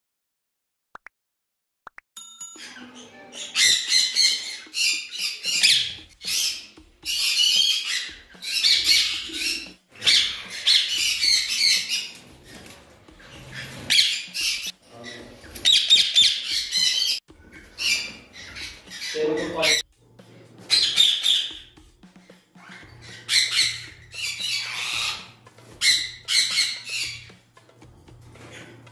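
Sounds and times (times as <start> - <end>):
parakeets screeching: 2.6 - 28.9.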